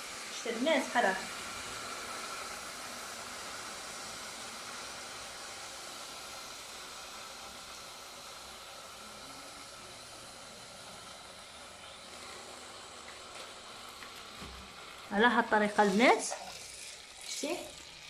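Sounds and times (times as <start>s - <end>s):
hot stones hissing in water: 0.0s - 18.0s.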